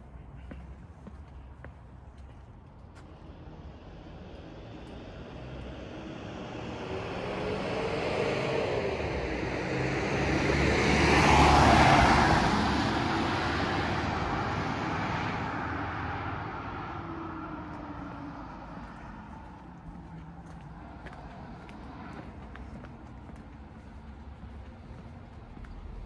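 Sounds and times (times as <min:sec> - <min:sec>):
car passing by: 0:03.0 - 0:26.0.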